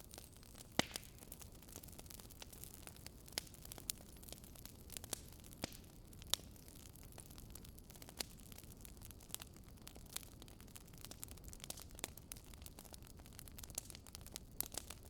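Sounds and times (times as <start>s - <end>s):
faint steady hiss: 0.0s - 15.0s
fireplace logs crackling and popping: 0.0s - 15.0s.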